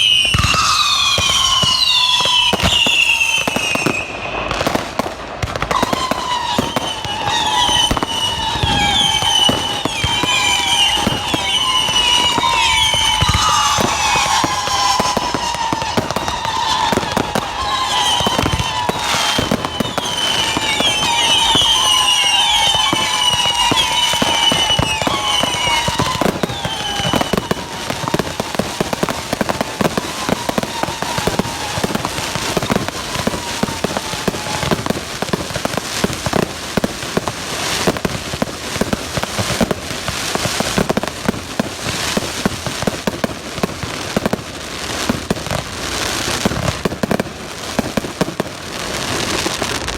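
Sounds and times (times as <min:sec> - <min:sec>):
fireworks bangs and crackling: 0:00.0 - 0:49.9
shrill fireworks whistles: 0:00.0 - 0:49.9.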